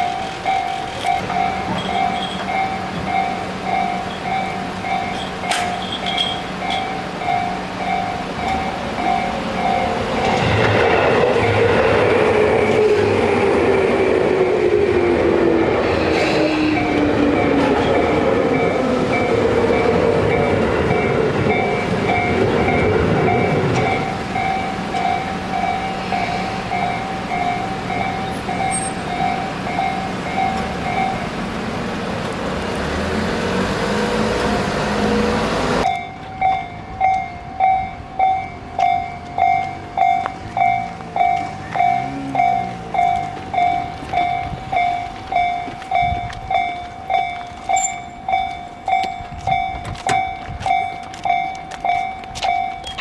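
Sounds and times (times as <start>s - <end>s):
level crossing warning bell: 0.0s - 32.3s, 35.8s - 53.0s
electric train passing: 0.0s - 53.0s.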